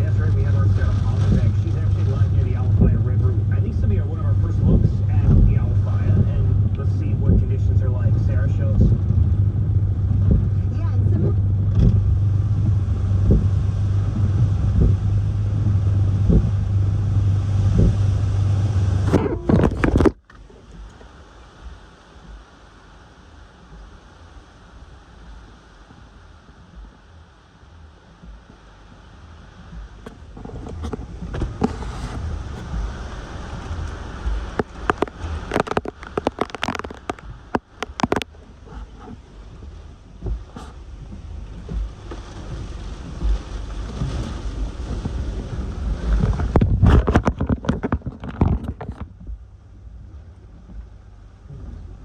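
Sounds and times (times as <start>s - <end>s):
wind buffeting microphone: 0.0s - 22.5s, 23.6s - 52.0s
rain or debris tapping: 0.0s - 52.0s.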